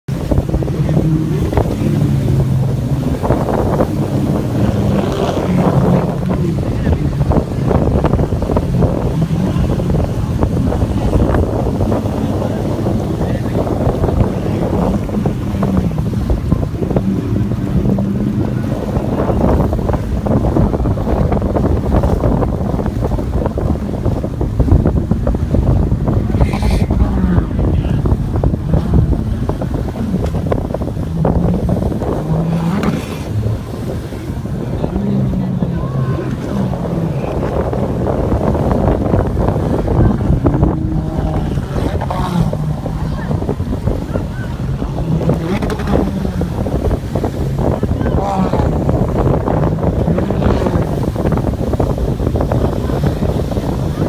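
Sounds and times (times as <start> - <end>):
water splashing against hull: 0.0 - 54.0
wind buffeting microphone: 0.0 - 54.0
jet ski engine running: 0.1 - 54.0.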